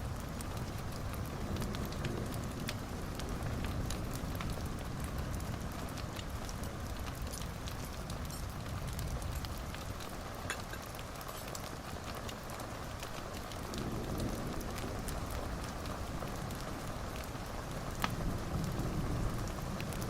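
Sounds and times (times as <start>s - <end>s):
fire popping: 0.0s - 20.0s
wood fire crackling: 0.0s - 20.0s.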